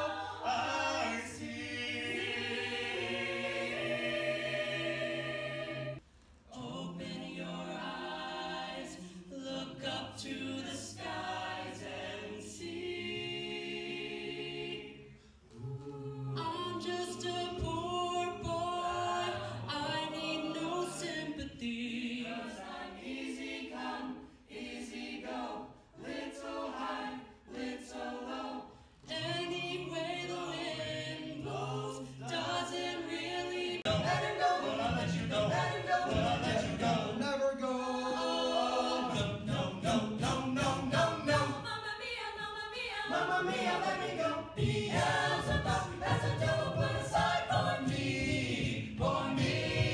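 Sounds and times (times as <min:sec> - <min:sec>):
a cappella group singing: 0:00.0 - 0:49.9.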